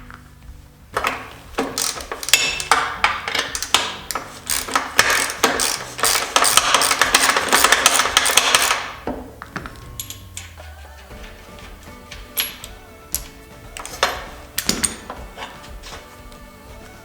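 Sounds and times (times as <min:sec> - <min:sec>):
hand tools clicking on metal: 0:01.0 - 0:11.4, 0:12.3 - 0:16.0.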